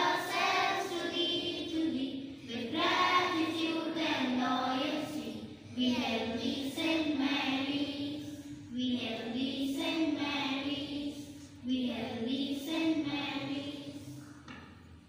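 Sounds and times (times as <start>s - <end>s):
children singing together: 0.0s - 14.5s.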